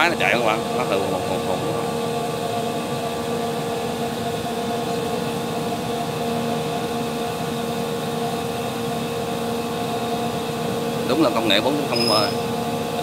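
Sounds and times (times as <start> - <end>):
husk blower mechanical hum: 0.0 - 13.0.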